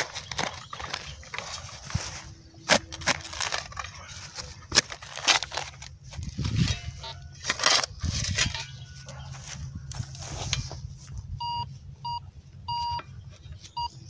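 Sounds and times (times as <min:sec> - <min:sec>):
earth scraping: 0:00.0 - 0:11.6.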